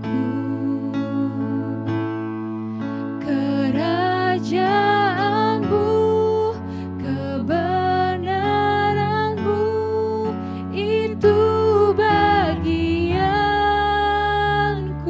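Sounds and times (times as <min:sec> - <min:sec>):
women singing worship song: 0:00.0 - 0:02.0, 0:03.2 - 0:15.0
held backing chords: 0:00.0 - 0:15.0.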